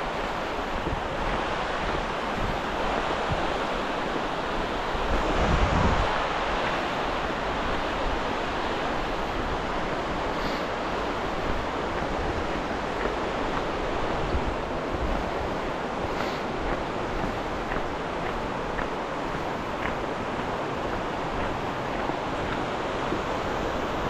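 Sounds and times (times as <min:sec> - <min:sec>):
water rushing over rapids: 0:00.0 - 0:24.0.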